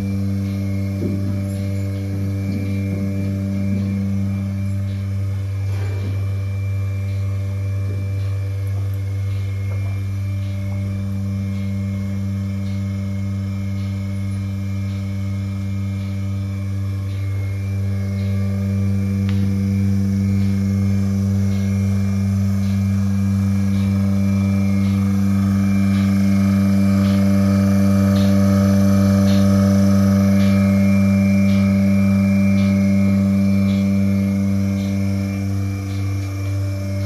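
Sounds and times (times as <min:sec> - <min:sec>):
pulsators ticking: 0:00.0 - 0:05.6, 0:06.2 - 0:37.0
milking machine vacuum hum: 0:00.0 - 0:37.0.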